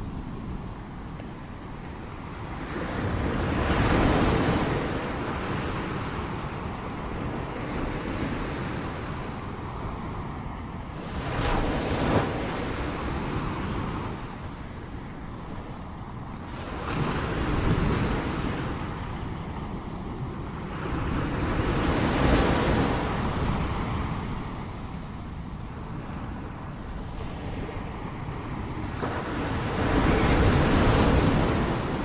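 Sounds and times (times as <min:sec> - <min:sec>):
waves breaking on shore: 0:00.0 - 0:32.0.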